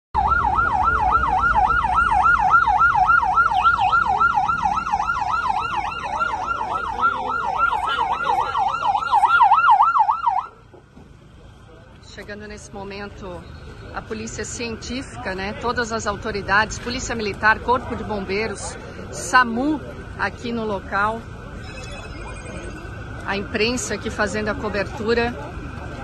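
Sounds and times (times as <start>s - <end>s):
emergency siren yelping: 0.2s - 10.7s, 13.4s - 26.0s.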